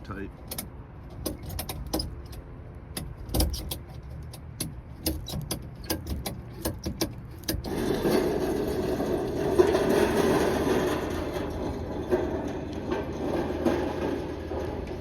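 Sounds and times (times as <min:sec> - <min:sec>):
road noise: 0:00.0 - 0:15.0
sharp metallic clicks and rattles: 0:00.4 - 0:15.0.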